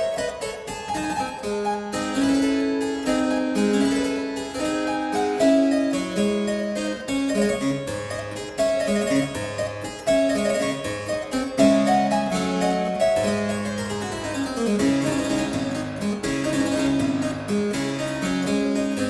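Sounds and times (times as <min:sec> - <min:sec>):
instrumental keyboard music: 0:00.0 - 0:19.0.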